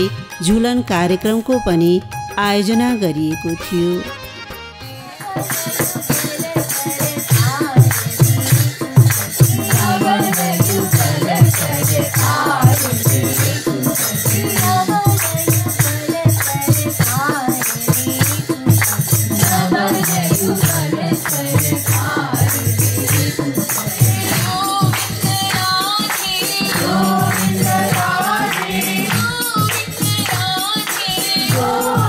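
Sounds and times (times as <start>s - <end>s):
jingling hand percussion: 0.0s - 32.0s
voices singing a chant: 5.1s - 32.0s.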